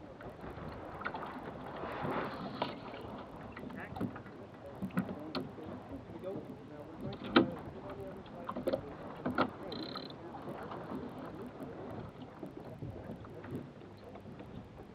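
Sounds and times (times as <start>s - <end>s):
water washing along a hull: 0.0s - 14.9s.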